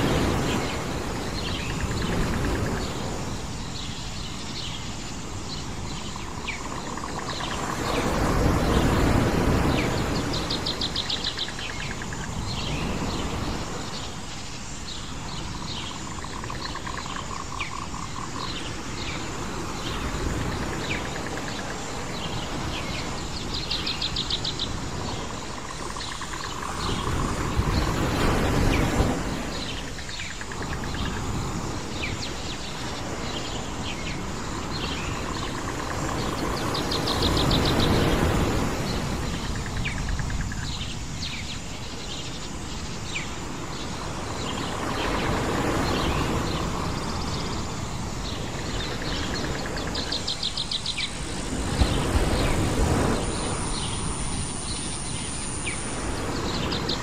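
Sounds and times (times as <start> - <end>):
birds chirping: 0.0 - 57.0
waves washing in: 0.0 - 57.0.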